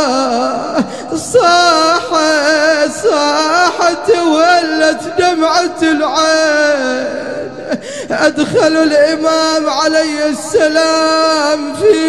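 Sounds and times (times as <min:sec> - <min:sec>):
man chanting mournfully: 0:00.0 - 0:12.0.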